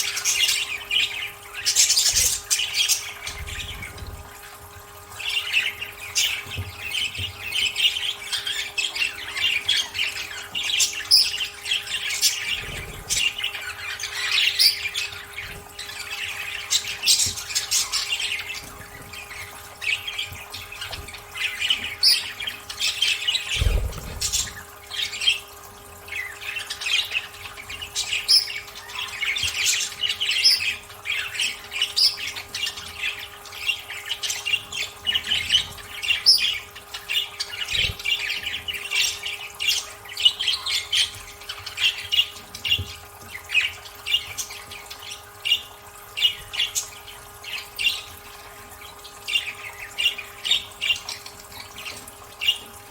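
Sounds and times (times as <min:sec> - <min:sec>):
budgerigars chattering and chirping: 0:00.0 - 0:52.9.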